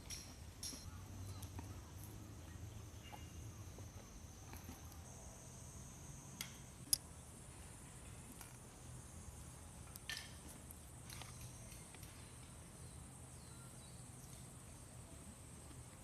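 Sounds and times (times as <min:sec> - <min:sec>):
insect chirping: 0:00.0 - 0:15.8.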